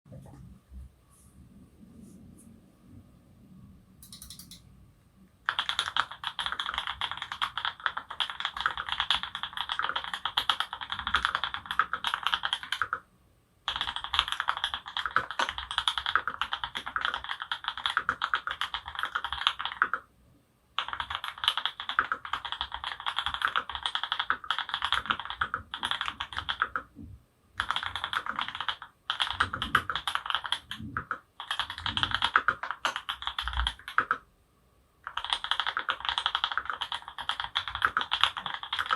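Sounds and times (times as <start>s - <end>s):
mechanical keyboard typing: 4.0s - 4.6s, 5.5s - 13.0s, 13.7s - 20.1s, 20.8s - 26.9s, 27.6s - 34.2s, 35.0s - 38.9s.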